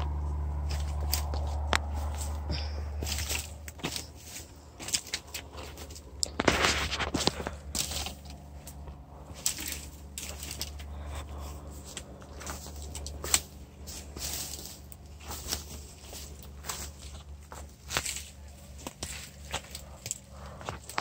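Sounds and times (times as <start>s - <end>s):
footsteps through dry leaves: 0.0s - 21.0s
twigs cracking: 0.0s - 21.0s.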